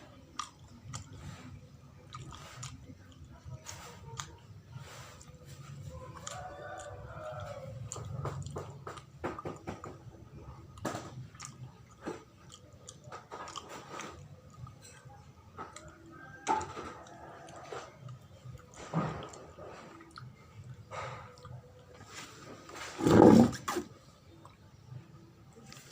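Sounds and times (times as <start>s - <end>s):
chewing sticky sweet: 0.0s - 22.8s, 24.1s - 25.9s.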